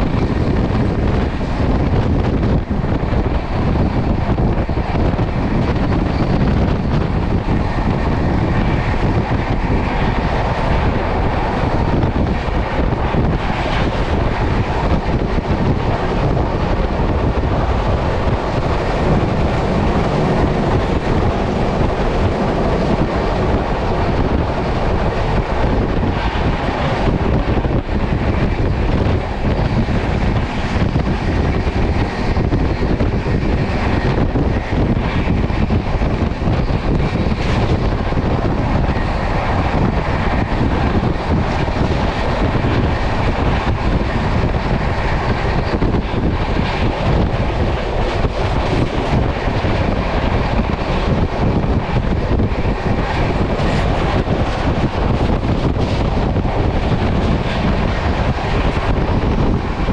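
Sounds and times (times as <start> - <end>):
train wheels rumbling on track: 0.0 - 59.9
wind buffeting microphone: 0.0 - 59.9.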